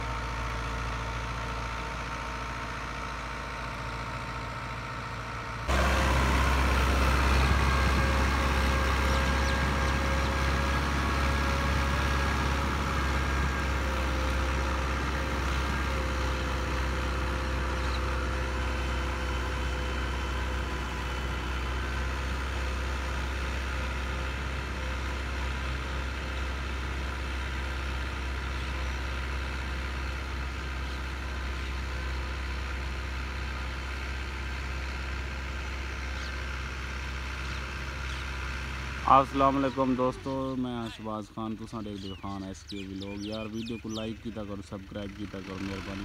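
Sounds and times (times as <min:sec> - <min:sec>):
tractor engine under load: 0:00.0 - 0:46.0.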